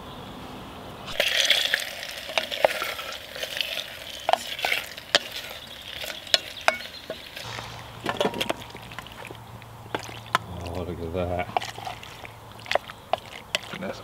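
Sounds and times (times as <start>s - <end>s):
food frying hiss: 1.1s - 14.0s
wooden spoon scraping metal pot: 1.1s - 14.0s.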